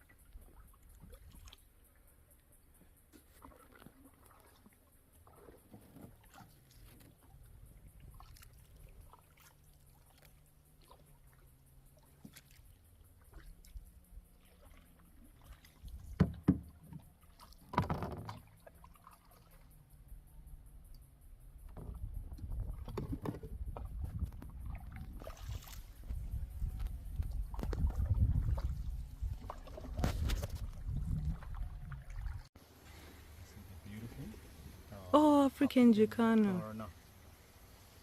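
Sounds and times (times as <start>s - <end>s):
paddles dipping and splashing: 0.0s - 20.0s, 21.6s - 37.6s.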